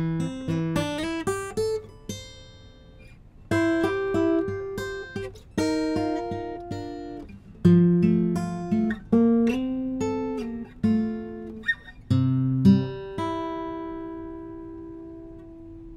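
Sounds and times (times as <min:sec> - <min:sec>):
acoustic guitar picked notes and chords: 0:00.0 - 0:15.9.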